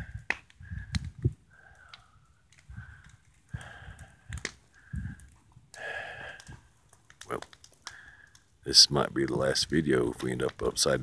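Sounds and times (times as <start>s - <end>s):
campfire crackling: 0.0s - 11.0s
sharp fire pops: 0.0s - 11.0s.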